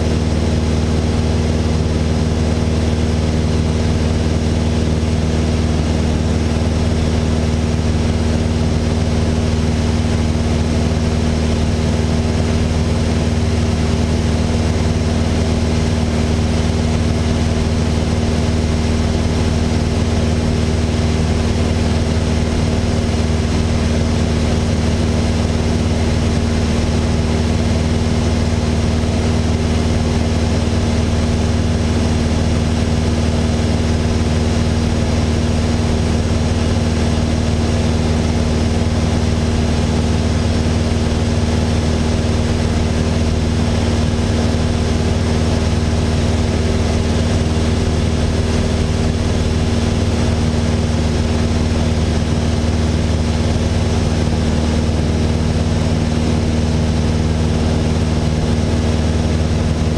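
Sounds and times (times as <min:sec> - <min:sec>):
aircraft engine drone in cabin: 0:00.0 - 0:59.9.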